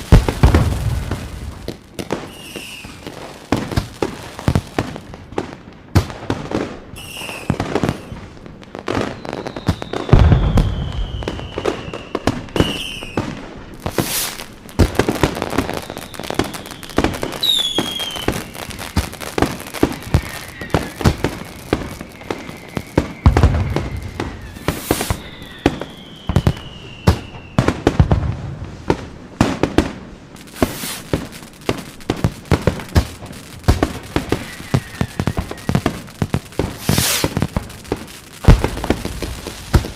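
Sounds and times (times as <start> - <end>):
deep fireworks booms: 0.0 - 39.9
falling fireworks whistles: 0.0 - 39.9
fireworks crackling pops: 0.0 - 39.9.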